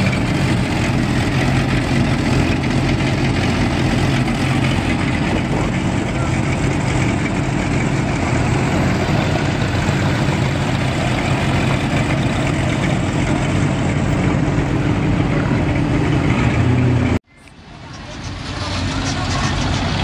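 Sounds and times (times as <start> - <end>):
car engines idling: 0.0 - 20.0.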